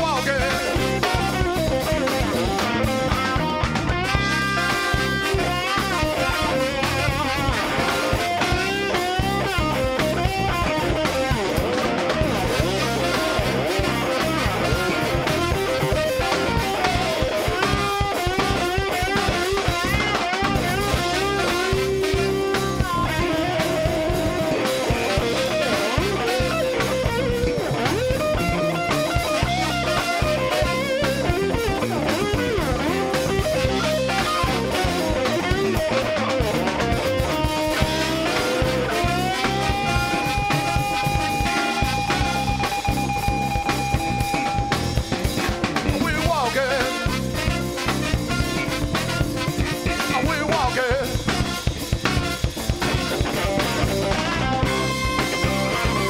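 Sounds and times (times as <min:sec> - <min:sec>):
electric blues band playing: 0:00.0 - 0:56.0
electric guitar bent notes: 0:00.0 - 0:56.0.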